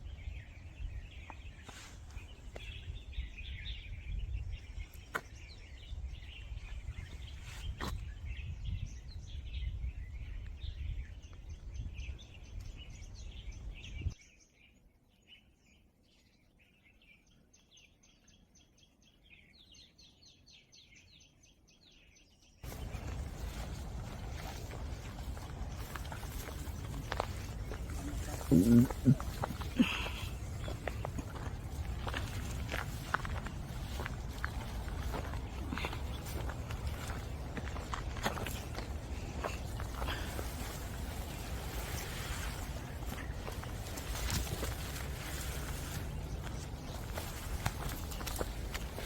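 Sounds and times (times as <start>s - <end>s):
wind buffeting microphone: 0.0s - 14.2s, 22.6s - 49.0s
birds chirping: 0.0s - 49.0s.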